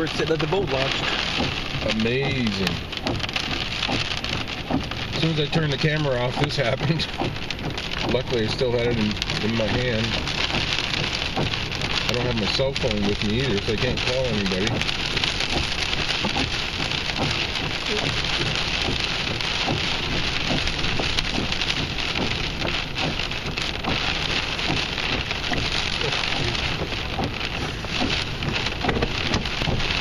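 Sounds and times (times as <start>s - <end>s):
heavy rain in wind: 0.0s - 30.0s.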